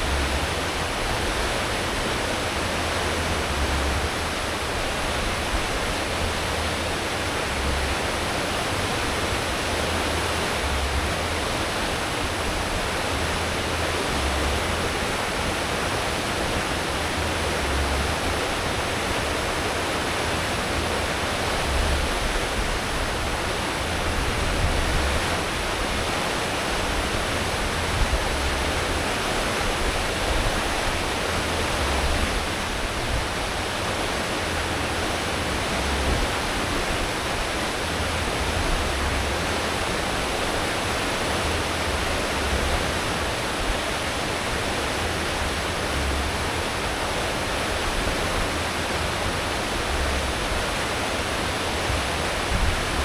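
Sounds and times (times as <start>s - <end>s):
ship wake churning: 0.0s - 53.0s.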